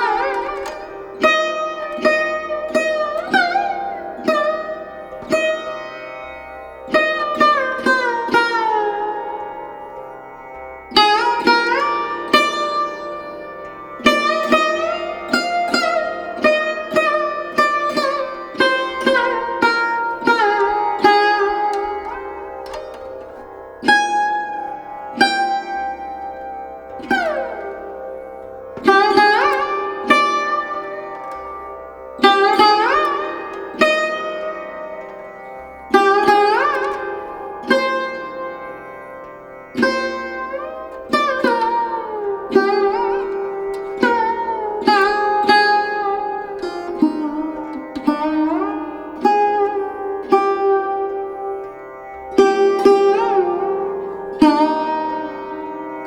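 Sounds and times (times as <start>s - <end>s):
plucked sitar-like melody: 0.0s - 56.0s.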